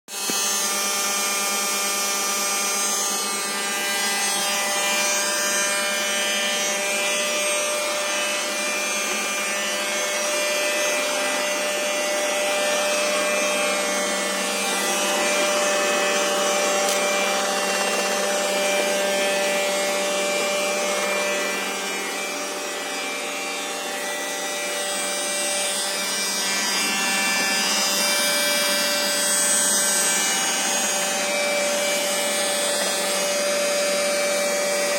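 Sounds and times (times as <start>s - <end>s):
robot vacuum whining: 0.1s - 34.9s.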